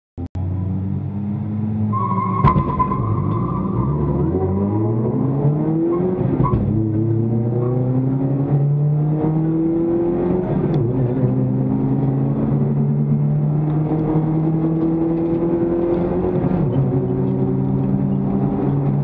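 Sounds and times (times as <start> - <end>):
race car engine accelerating: 0.4 - 19.0.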